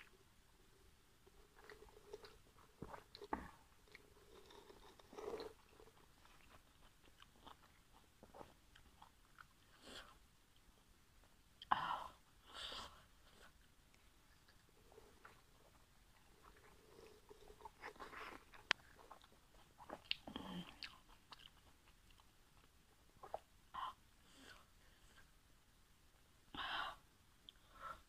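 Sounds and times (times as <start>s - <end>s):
chewing soft dumplings: 0.0s - 26.2s.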